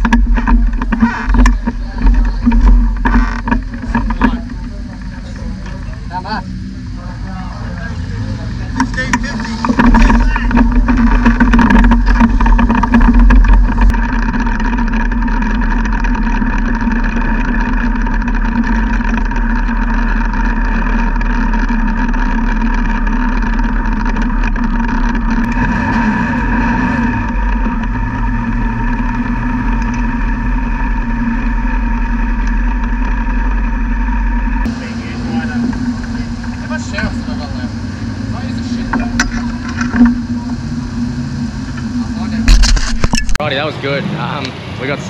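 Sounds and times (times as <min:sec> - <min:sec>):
race car engine running: 0:00.0 - 0:45.0.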